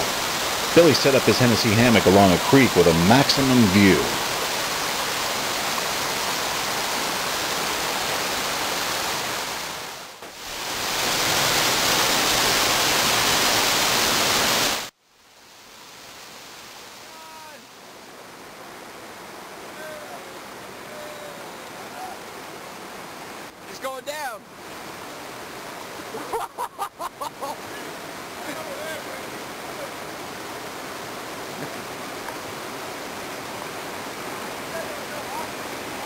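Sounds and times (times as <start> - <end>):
river rapid rushing: 0.0 - 14.9, 15.6 - 36.0
creek running: 0.0 - 36.0
waterfall: 0.0 - 36.0.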